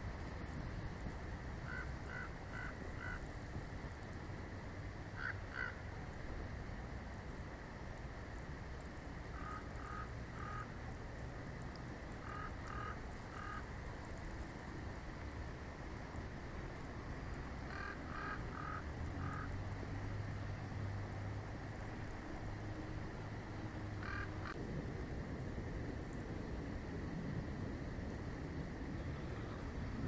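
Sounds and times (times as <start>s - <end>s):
wind noise rumble: 0.0s - 30.0s.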